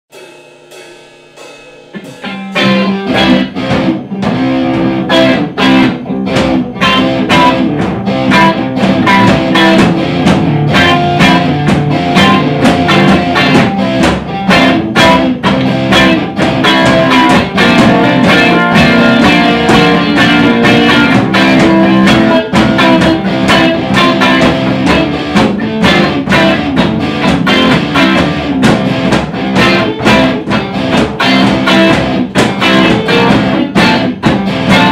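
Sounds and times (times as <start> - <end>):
drum kit: 0.1 - 34.9
electric guitars: 1.9 - 34.9.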